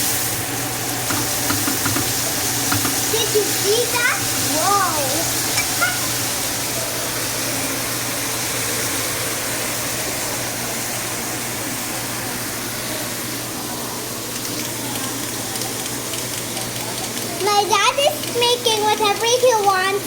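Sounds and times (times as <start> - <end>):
steak sizzling in a frying pan: 0.0 - 20.0.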